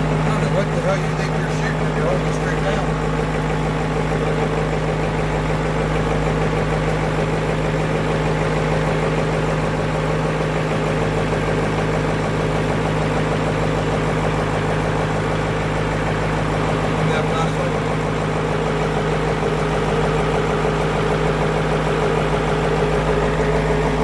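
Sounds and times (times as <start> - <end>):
diesel engine idling loudly: 0.0 - 24.0.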